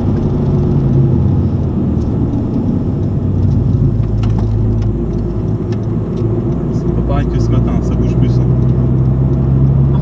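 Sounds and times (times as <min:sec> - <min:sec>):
car engine at low revs: 0:00.0 - 0:10.0.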